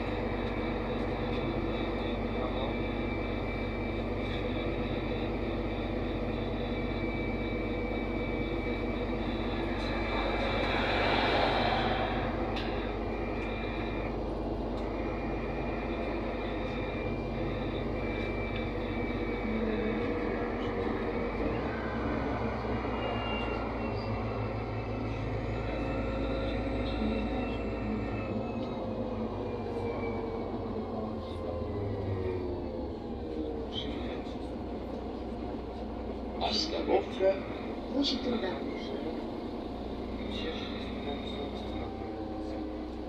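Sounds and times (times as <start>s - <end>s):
diesel bus engine running: 0.0s - 43.0s
road and tyre noise: 0.0s - 43.0s.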